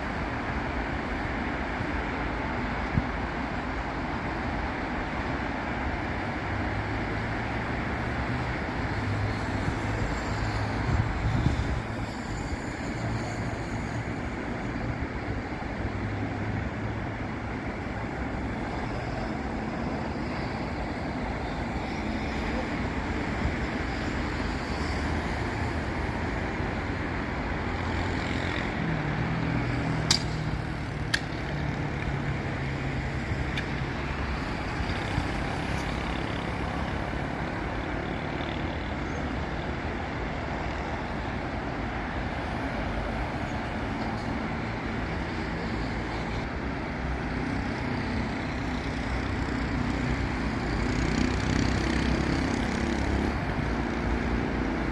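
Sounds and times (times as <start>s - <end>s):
heavy vehicle engine drone: 0.0s - 54.9s
traffic passing: 0.0s - 54.9s.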